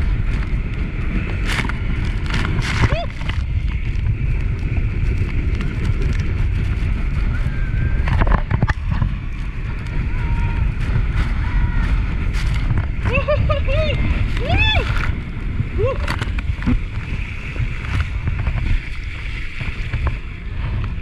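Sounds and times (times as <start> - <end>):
motorboat engine: 0.0 - 21.0
wind rumble on microphone: 0.0 - 21.0.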